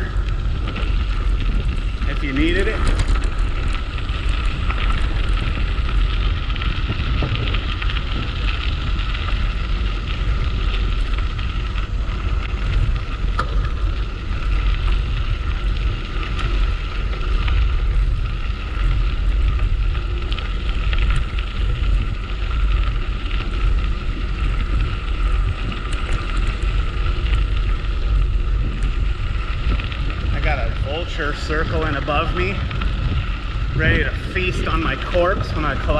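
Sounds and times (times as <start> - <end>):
bicycle tyres rolling on dirt: 0.0 - 35.9
wind buffeting microphone: 0.0 - 35.9.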